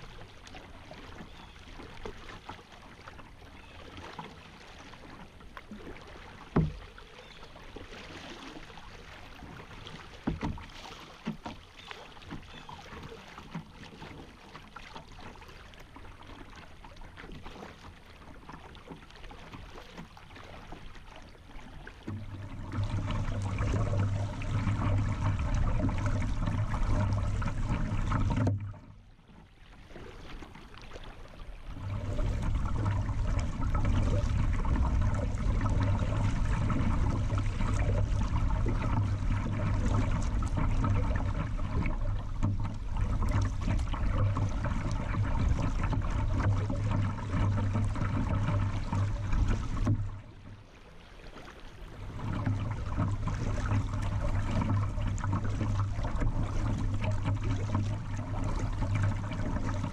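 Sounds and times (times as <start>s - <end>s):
water lapping against kayak hull: 0.0s - 59.9s.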